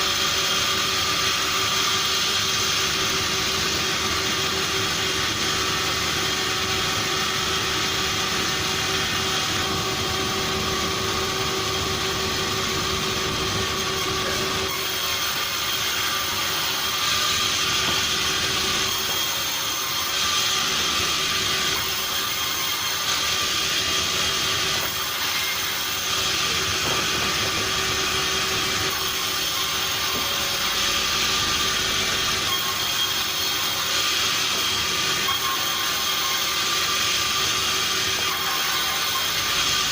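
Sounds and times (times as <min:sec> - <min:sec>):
sawmill machinery hum and whine: 0:00.0 - 0:39.9.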